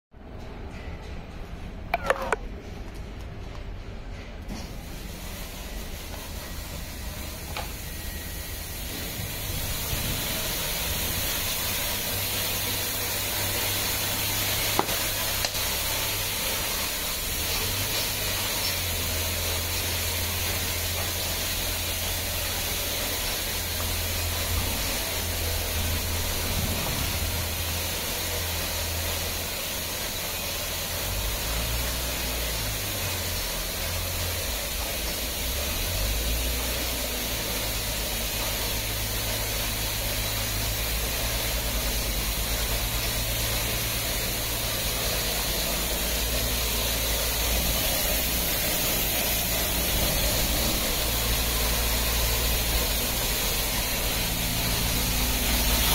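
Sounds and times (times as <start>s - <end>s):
car wash hiss: 4.5s - 55.9s.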